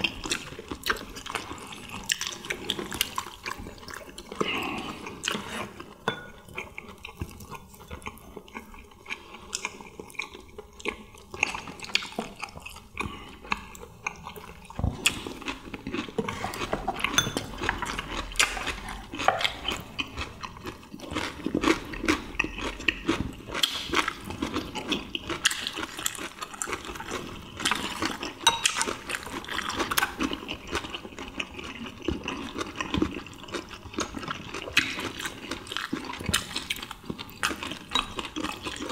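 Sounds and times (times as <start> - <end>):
people chewing: 0.0 - 38.9.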